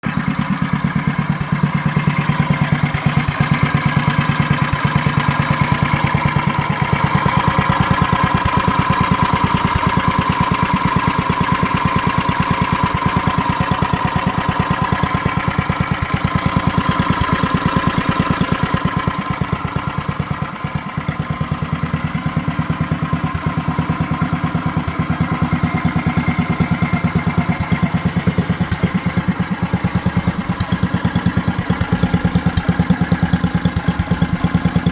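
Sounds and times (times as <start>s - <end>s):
mini bike engine running: 0.0s - 34.9s.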